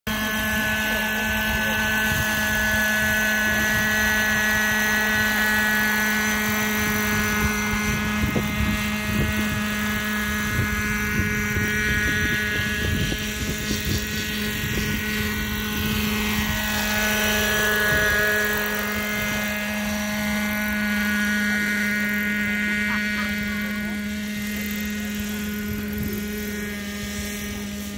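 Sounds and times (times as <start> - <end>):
model helicopter rotor hum: 0.0 - 27.9.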